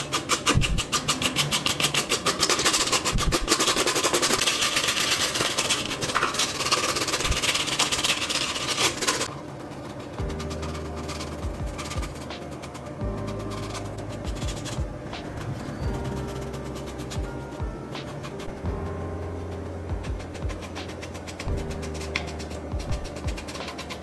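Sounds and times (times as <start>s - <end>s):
paintbrush scratching rough surface: 0.0s - 19.0s, 19.9s - 24.0s.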